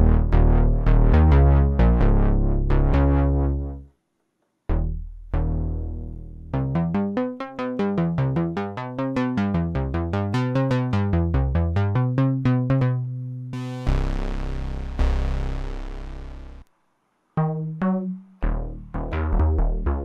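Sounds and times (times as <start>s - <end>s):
synthesizer bass notes: 0.0s - 3.9s, 4.7s - 16.7s, 17.4s - 20.0s.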